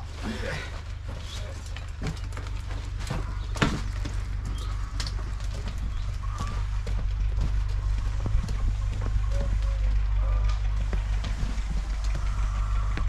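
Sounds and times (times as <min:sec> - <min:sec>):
wheelbarrow knocks and clatters: 0:00.0 - 0:12.4
footsteps: 0:00.0 - 0:13.0
wheelbarrow wheel rumbling on stones: 0:00.0 - 0:13.0.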